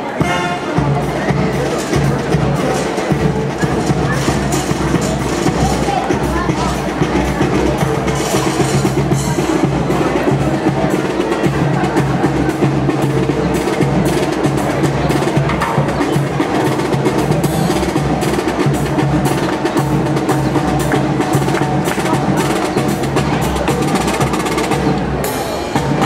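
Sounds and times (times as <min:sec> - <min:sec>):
marching band playing: 0:00.0 - 0:26.0
snare drum rhythm: 0:00.2 - 0:26.0.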